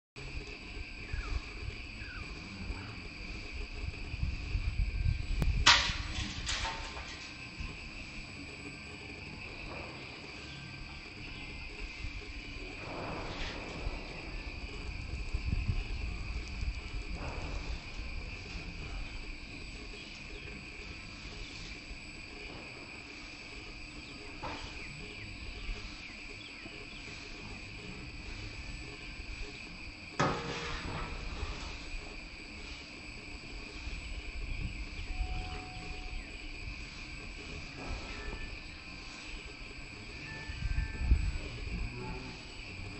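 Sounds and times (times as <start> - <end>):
high-pitched insect drone: 0.2 - 42.9.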